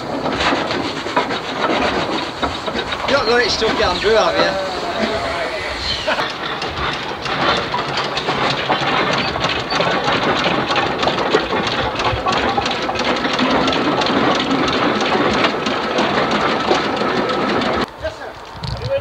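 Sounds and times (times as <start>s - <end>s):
steam engine clattering: 0.0s - 18.2s.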